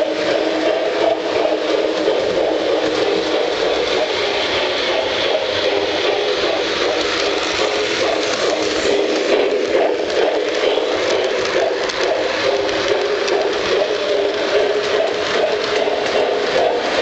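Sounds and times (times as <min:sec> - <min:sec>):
light ticking of train cars: 0:00.0 - 0:17.0
model train rumbling and whirring: 0:00.0 - 0:17.0.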